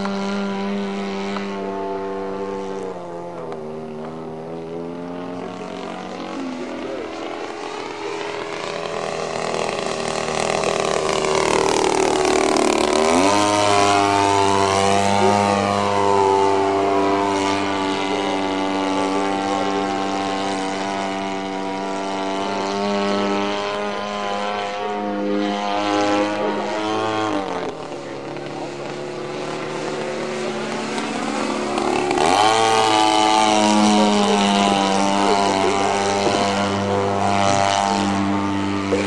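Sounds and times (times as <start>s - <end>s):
model plane engine passing: 0.0s - 39.0s.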